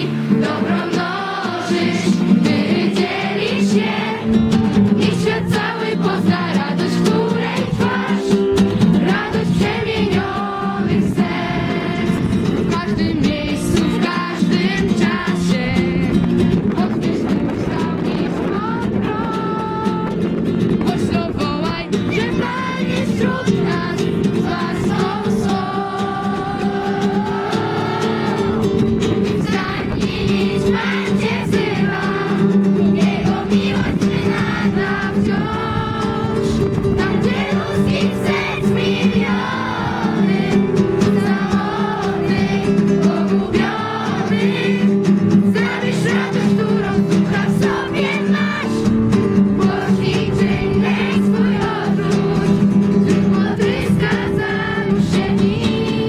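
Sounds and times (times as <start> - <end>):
instrumental backing: 0.0 - 55.9
group of voices singing: 0.0 - 56.0.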